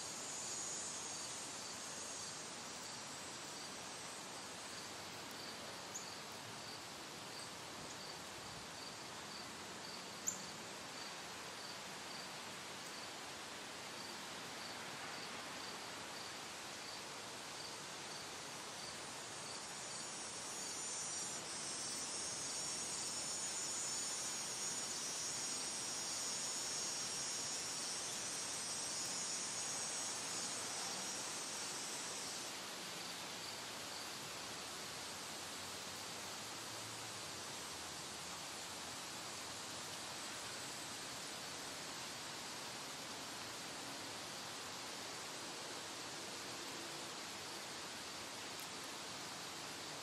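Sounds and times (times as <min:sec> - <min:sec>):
faint high insect chirp: 0:00.0 - 0:50.0.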